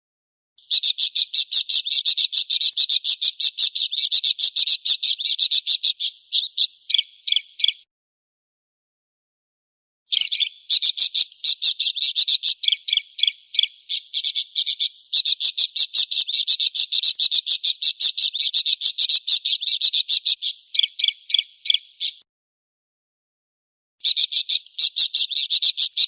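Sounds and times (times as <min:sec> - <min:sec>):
songbird chattering: 0:00.6 - 0:07.9, 0:10.1 - 0:22.2, 0:24.0 - 0:26.0.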